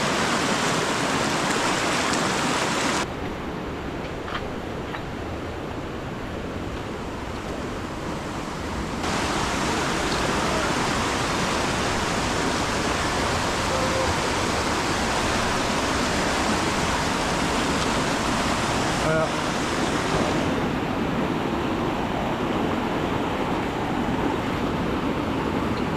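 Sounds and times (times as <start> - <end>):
fast-flowing water rushing: 0.0 - 4.0, 4.6 - 25.9.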